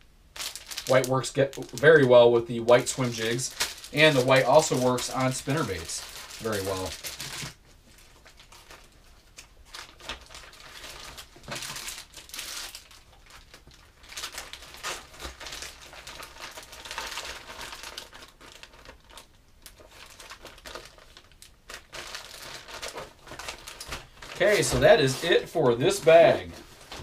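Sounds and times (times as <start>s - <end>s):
plastic crinkling: 0.3s - 27.0s.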